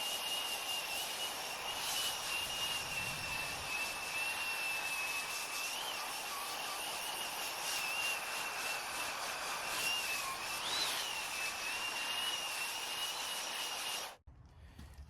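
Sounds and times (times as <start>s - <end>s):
belt sander grinding steel: 0.0s - 14.2s.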